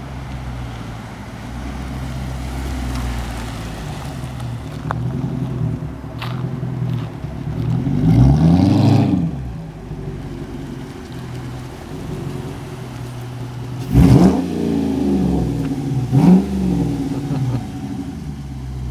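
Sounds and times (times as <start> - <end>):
car engine rumbling and revving: 0.0 - 18.9.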